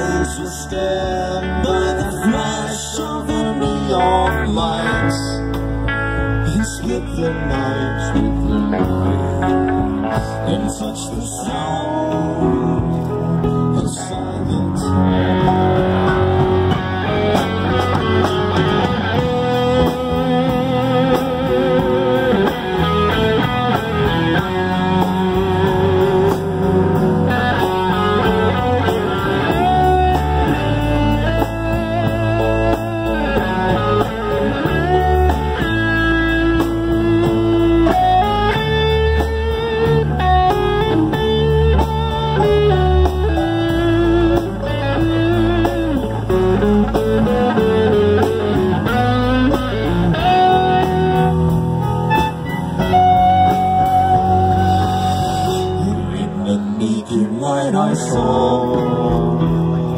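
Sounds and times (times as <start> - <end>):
bass and drums: 0.0 - 59.9
electric guitar solo: 11.4 - 59.9.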